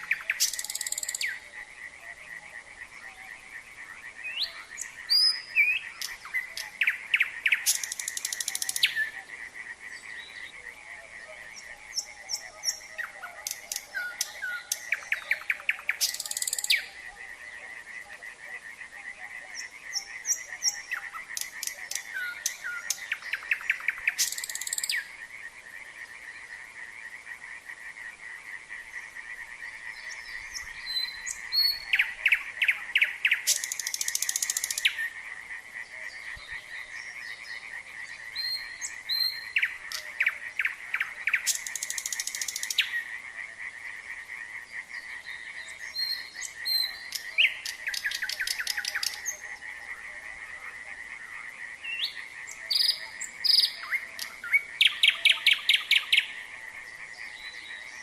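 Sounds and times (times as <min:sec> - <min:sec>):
nightingale singing: 0:00.0 - 0:28.0, 0:28.7 - 0:58.0
chorus of frogs: 0:00.0 - 0:58.0.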